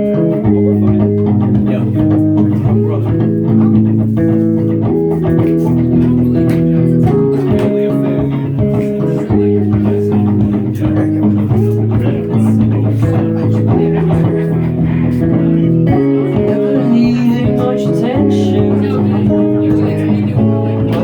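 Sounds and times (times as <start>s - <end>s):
electric guitar playing chords: 0.0s - 21.0s
sustained low bass line: 0.0s - 21.0s.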